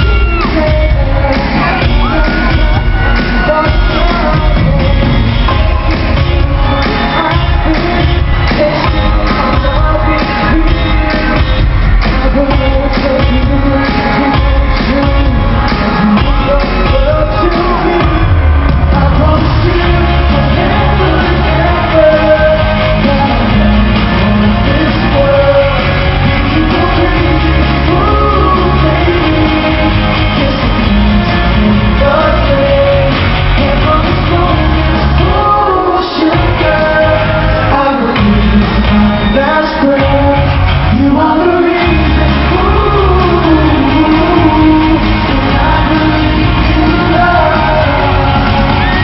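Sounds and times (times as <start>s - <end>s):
audience shouting: 0.0s - 0.8s, 1.4s - 12.9s, 13.7s - 49.0s
person singing over a band: 0.0s - 49.0s.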